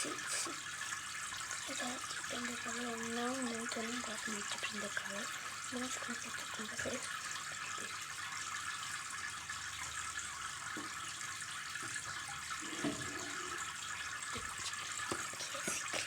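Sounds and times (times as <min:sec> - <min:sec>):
water trickling in fish tank: 0:00.0 - 0:16.0.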